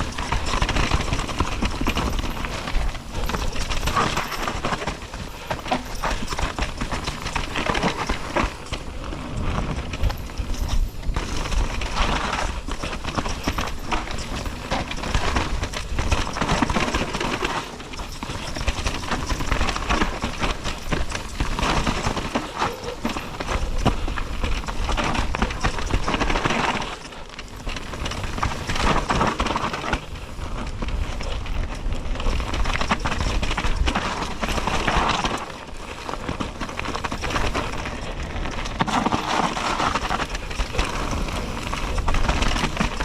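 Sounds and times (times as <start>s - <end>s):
bike rattling and clattering: 0.0s - 43.0s
tyres rolling over dirt and rocks: 0.0s - 43.0s.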